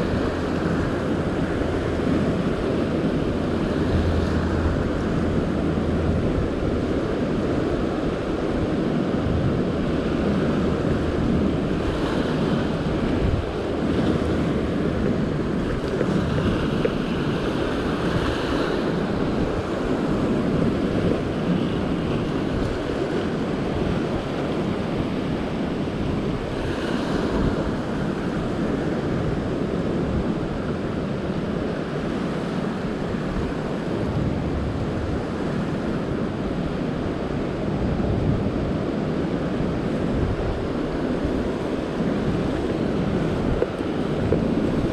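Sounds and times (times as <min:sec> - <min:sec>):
waves breaking on rocks: 0:00.0 - 0:44.9
wind on microphone: 0:00.0 - 0:44.9.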